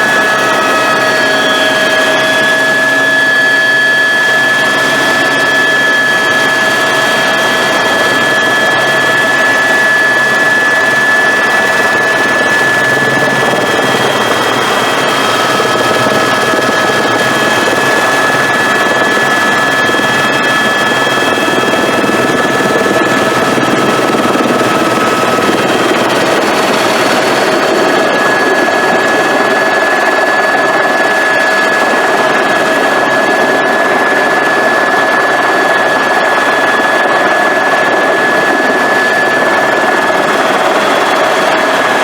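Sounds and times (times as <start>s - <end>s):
helicopter engine and rotor noise: 0.0s - 42.0s
high-pitched whine: 0.0s - 42.0s.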